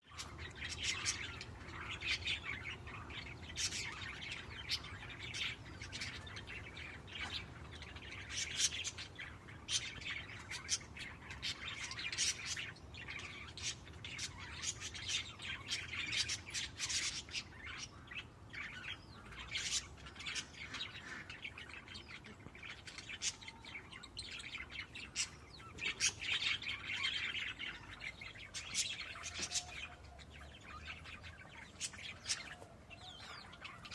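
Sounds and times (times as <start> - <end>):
budgerigars chirping: 0.0 - 33.9.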